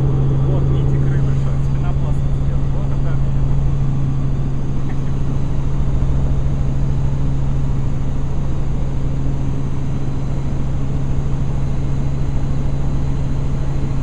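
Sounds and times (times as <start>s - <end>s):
helicopter rotor drone: 0.0s - 14.0s.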